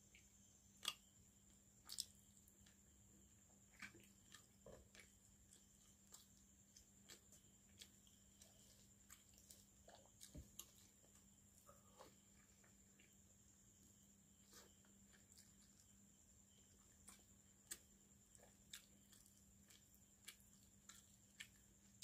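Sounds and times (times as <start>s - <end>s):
soft wet chewing: 0.1s - 22.0s.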